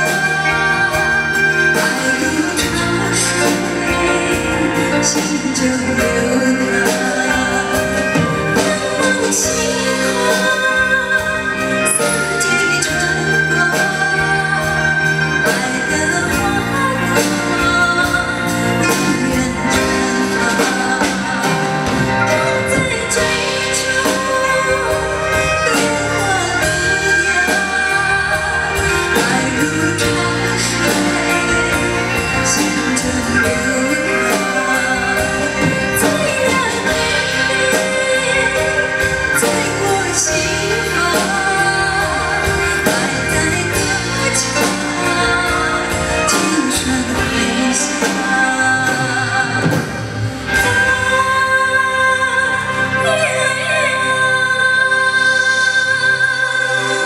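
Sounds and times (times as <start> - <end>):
instrumental accompaniment: 0.0 - 57.0
woman singing into microphone: 0.0 - 57.0.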